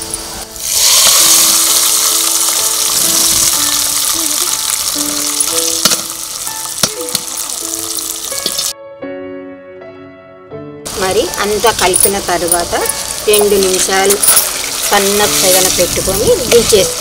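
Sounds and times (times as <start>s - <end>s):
hot oil sizzling: 0.0s - 8.8s, 10.9s - 17.0s.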